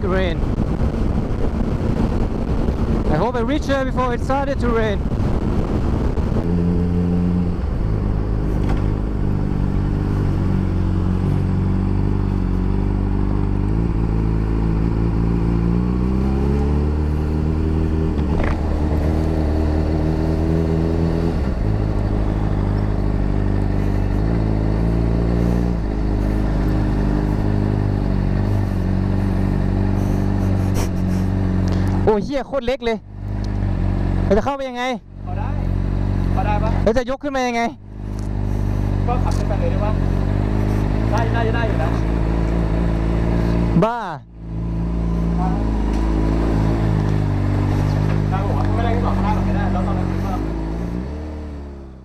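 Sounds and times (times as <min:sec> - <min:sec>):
motorcycle engine revving: 0:00.0 - 0:32.3, 0:33.0 - 0:37.0, 0:37.8 - 0:52.0.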